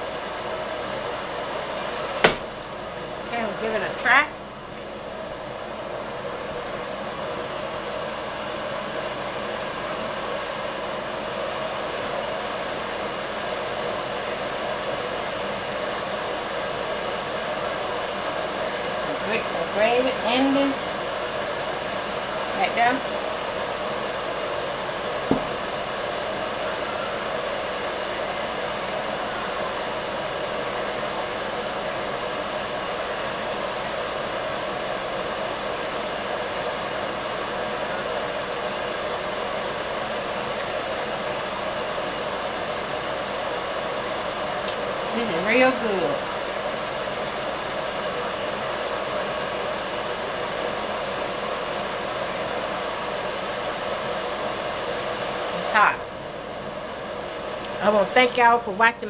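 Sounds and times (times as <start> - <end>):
fan blowing: 0.0 - 59.0.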